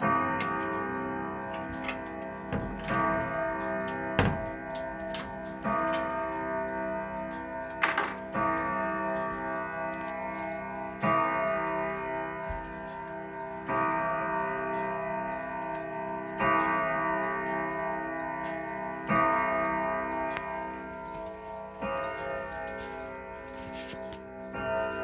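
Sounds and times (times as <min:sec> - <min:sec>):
pendulum ticking: 0:00.0 - 0:22.2
clock chime rods ringing: 0:00.0 - 0:25.0.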